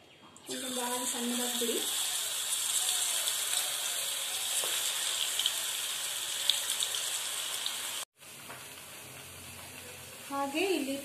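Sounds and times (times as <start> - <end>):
batter sizzling in hot oil: 0.5 - 11.0.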